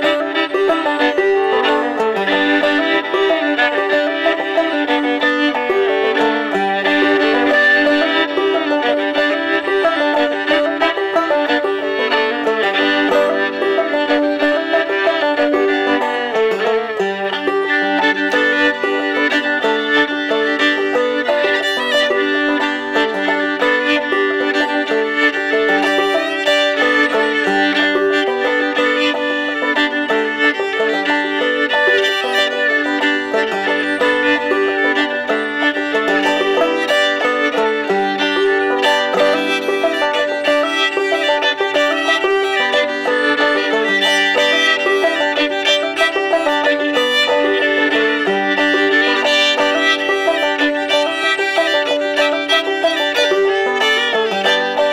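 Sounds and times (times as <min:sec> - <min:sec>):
banjo plucking: 0:00.0 - 0:54.9
bowed fiddle: 0:00.0 - 0:54.9.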